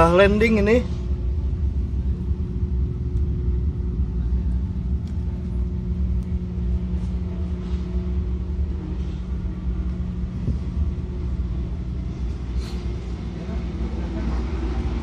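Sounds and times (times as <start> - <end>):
ferry diesel engines rumbling: 0.0 - 15.0.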